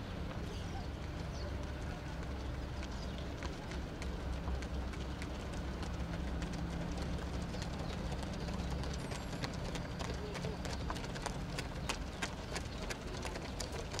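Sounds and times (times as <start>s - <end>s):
runners' footsteps on a track: 0.0s - 14.0s.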